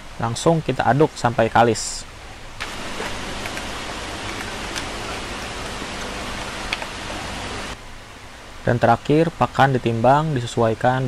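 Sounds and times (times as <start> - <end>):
rushing background hiss: 0.0 - 11.0.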